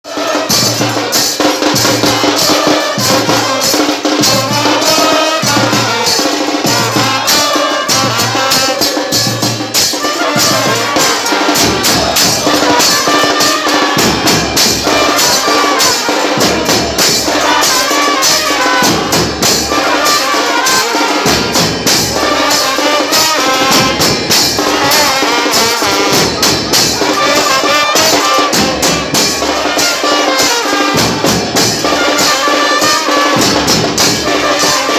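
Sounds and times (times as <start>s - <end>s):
crowd chanting in unison: 0.0s - 34.9s
drums and cymbals: 0.0s - 34.9s.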